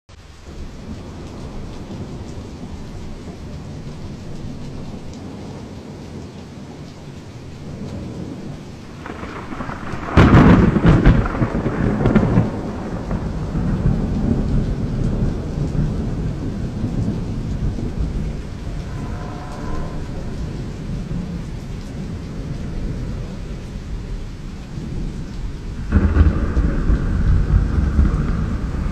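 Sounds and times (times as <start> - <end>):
heavy rain falling: 0.1 - 28.9
thunderclap rumbling: 0.5 - 28.9.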